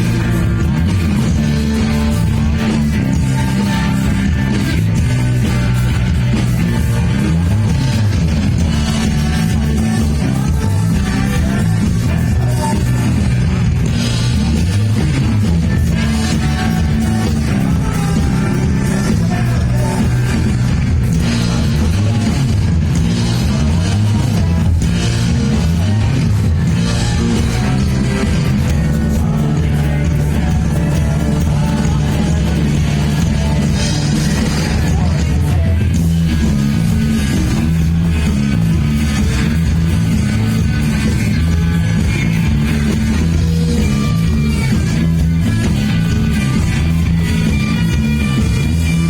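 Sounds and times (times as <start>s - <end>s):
bass guitar: 0.0s - 49.0s
drums: 0.0s - 49.0s
electric guitar: 0.0s - 49.0s
rock band playing live: 0.0s - 49.0s.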